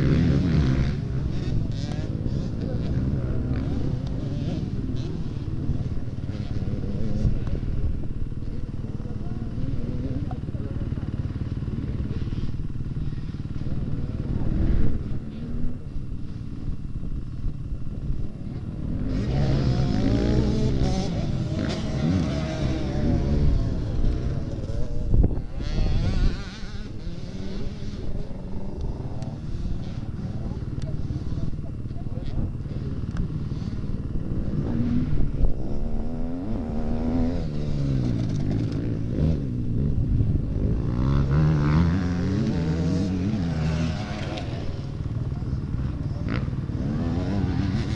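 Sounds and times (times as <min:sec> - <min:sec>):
motocross engines rumbling: 0:00.0 - 0:47.9
motorbike engine revving: 0:00.0 - 0:47.9.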